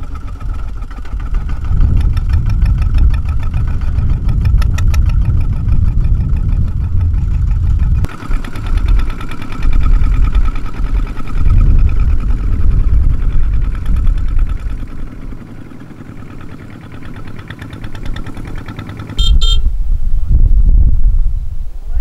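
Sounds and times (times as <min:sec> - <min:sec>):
diesel tractor engine chugging: 0:00.0 - 0:19.7.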